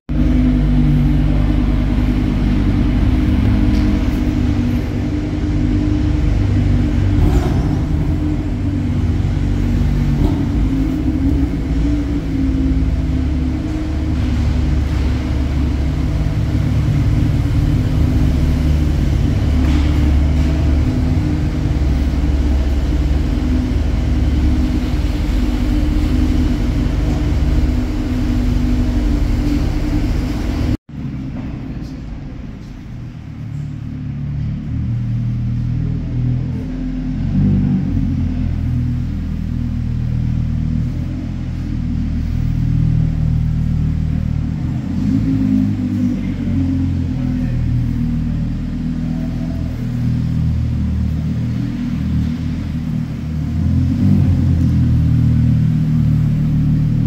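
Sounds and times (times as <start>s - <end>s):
sports car engines idling: 0.1s - 57.0s.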